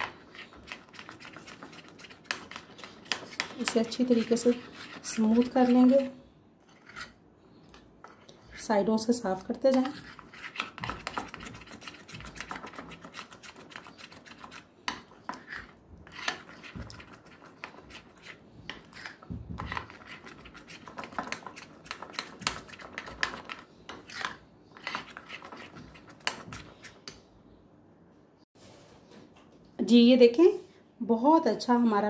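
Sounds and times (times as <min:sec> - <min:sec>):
spoon stirring batter in glass bowl: 0:00.0 - 0:27.2.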